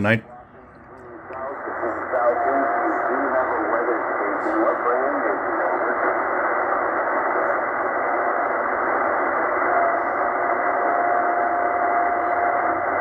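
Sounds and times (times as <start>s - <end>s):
radio band noise hiss: 0.0s - 13.0s
steady radio whistle: 1.1s - 13.0s.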